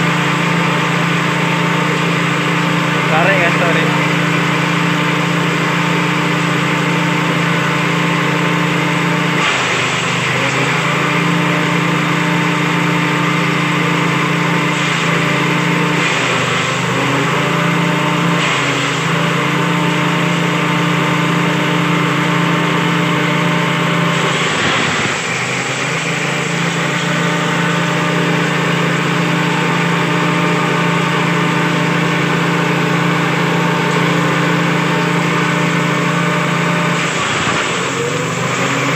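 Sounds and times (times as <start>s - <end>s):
small petrol engine running: 0.0s - 38.9s.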